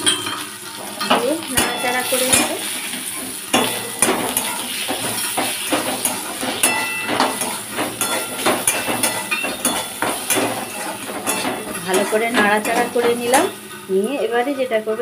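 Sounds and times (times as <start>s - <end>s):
metal spatula scraping a pan: 0.0s - 13.8s.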